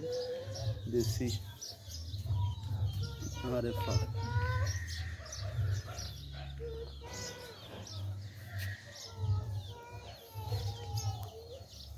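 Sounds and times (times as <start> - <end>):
birds calling: 0.0 - 11.9.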